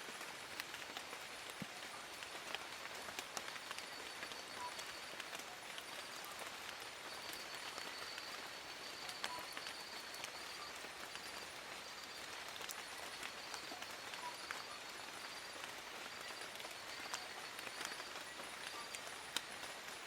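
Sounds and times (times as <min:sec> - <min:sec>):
rain falling on leaves: 0:00.0 - 0:20.0.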